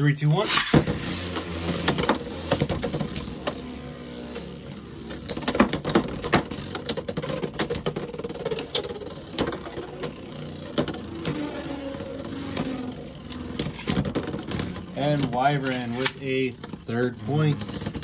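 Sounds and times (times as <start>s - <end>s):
spinning tops whirring: 0.4s - 18.0s.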